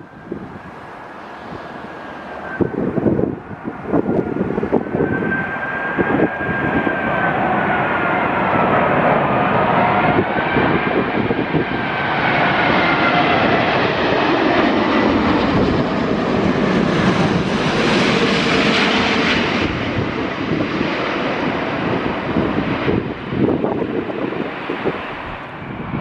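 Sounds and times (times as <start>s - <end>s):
jet airliner passing overhead: 0.0s - 26.0s.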